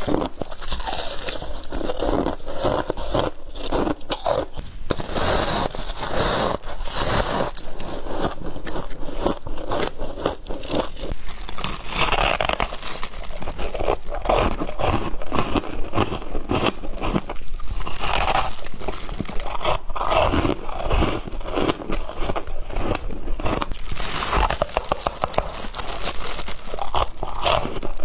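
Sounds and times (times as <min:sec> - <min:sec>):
frost being chewed: 0:00.0 - 0:28.0.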